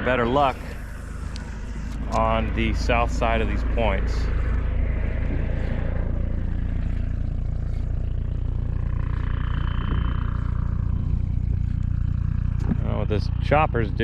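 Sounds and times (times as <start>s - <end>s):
helicopter rumble: 0.0s - 14.0s
high-pitched whine: 0.0s - 14.0s.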